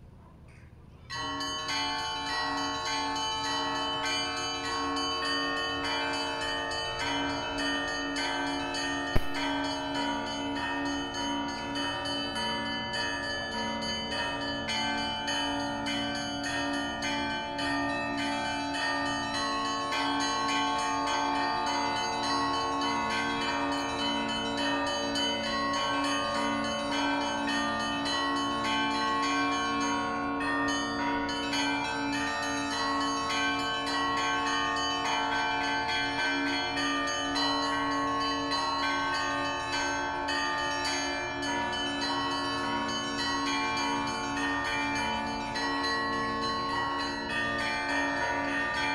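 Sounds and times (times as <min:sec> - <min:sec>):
church bells ringing: 0:01.0 - 0:48.9.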